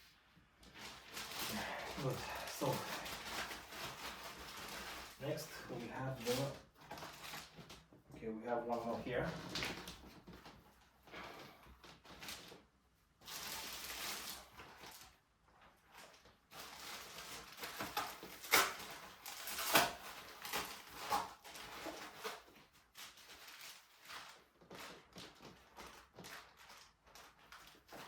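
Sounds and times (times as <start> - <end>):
packaging rustling and crinkling: 0.2 - 8.0, 8.7 - 28.0.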